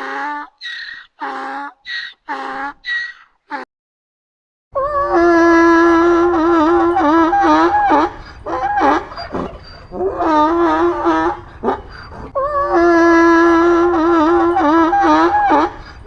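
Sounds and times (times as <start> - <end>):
donkey braying: 0.0 - 3.7, 4.9 - 16.0.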